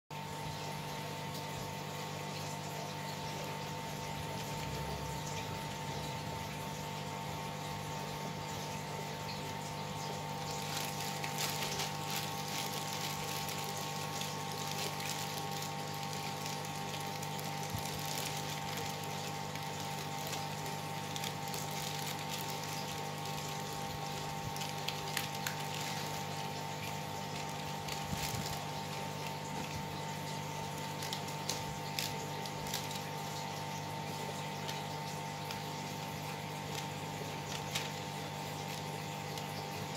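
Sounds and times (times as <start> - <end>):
aquarium filter pump hum: 0.1 - 39.9
water splashing and trickling: 0.1 - 39.9.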